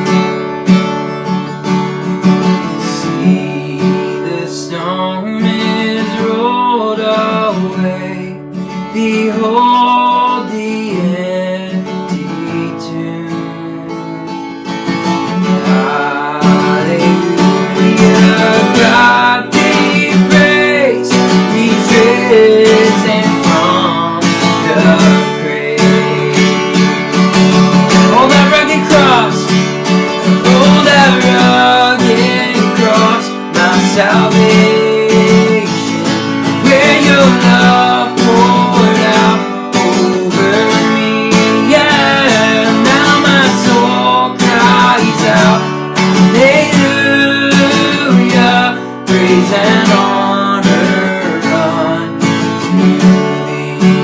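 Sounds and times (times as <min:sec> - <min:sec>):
strummed acoustic guitar with band: 0:00.0 - 0:54.0
person singing slow melody: 0:02.8 - 0:14.0, 0:15.3 - 0:27.2, 0:27.9 - 0:54.0.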